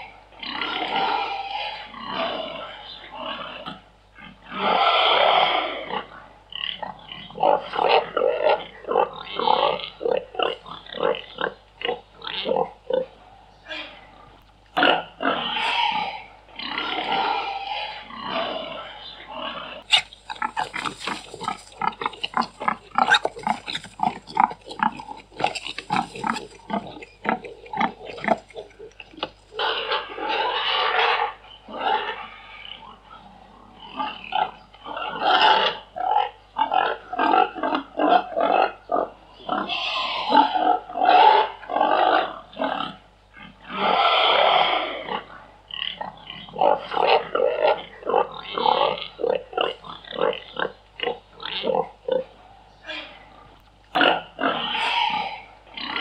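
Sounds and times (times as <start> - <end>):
pig calls: 0.0 - 56.0
pigs grunting: 0.0 - 56.0.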